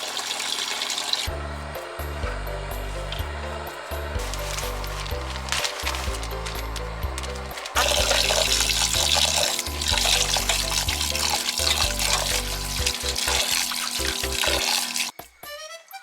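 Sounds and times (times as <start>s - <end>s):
water running: 0.0s - 15.4s
background music with bass line: 1.3s - 14.7s.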